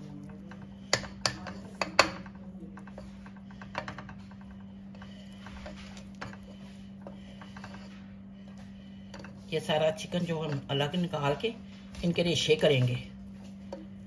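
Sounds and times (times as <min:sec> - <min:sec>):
spatula scraping a pressure cooker: 0:00.0 - 0:11.6.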